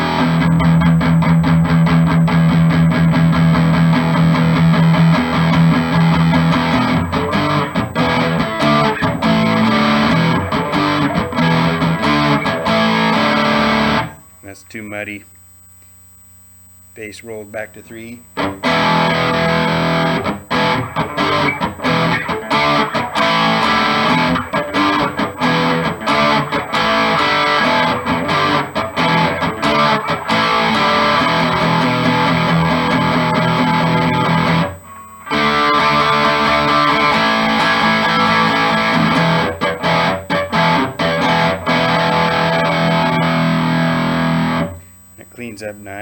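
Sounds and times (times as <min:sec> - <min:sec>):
electric guitar through amplifier: 0:00.0 - 0:46.0.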